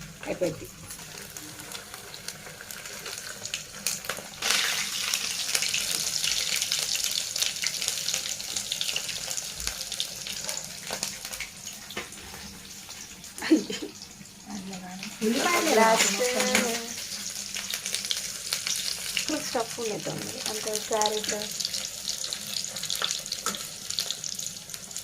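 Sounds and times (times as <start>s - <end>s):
deep-frying sizzle and crackle: 0.0s - 25.0s.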